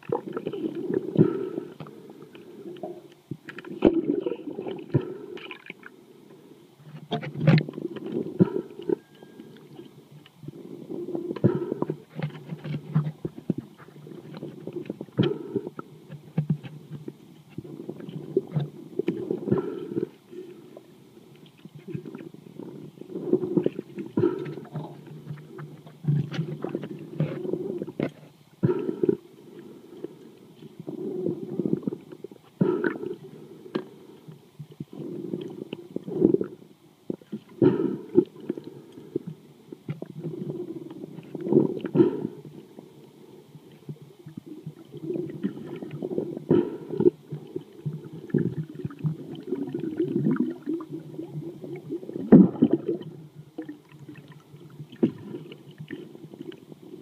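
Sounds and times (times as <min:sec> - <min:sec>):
underwater rumbling and gurgling: 0:00.0 - 0:57.0.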